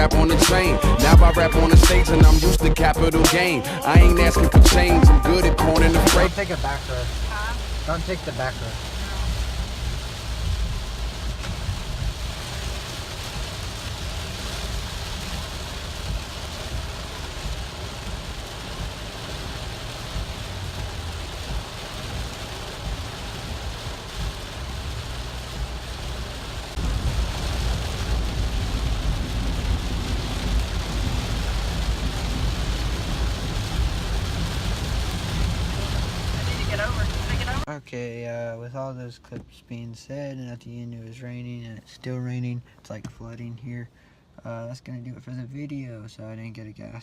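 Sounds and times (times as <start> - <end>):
heavy rain falling: 0.0 - 37.7
low rumble: 0.0 - 37.7.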